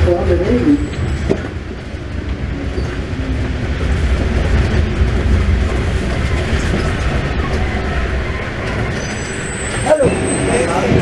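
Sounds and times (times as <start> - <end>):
underground train rumbling on rails: 0.0 - 11.0.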